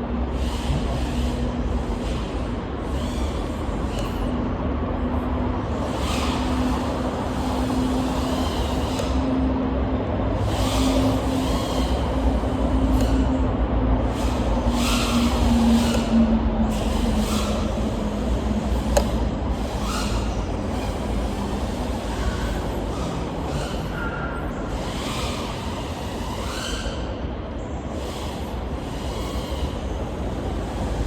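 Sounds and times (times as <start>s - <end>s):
drone motors and propellers whining: 0.0s - 31.0s.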